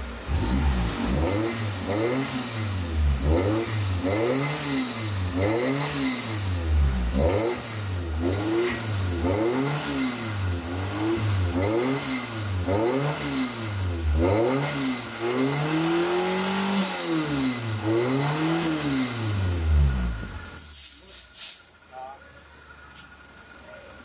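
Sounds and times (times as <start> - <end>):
car engine revving: 0.0 - 20.7.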